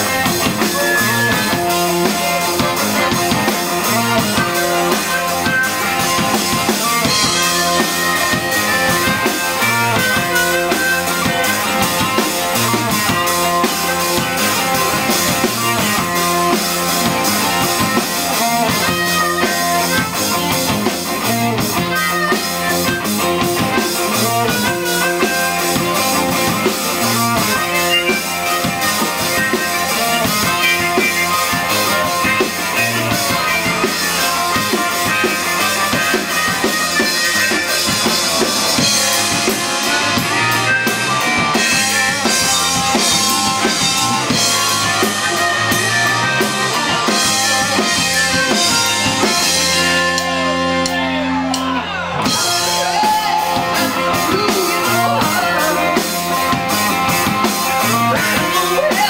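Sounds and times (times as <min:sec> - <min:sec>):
bass guitar: 0:00.0 - 0:59.0
drum kit beat: 0:00.0 - 0:59.0
electric guitar: 0:00.0 - 0:59.0
harmonica through microphone: 0:00.0 - 0:59.0.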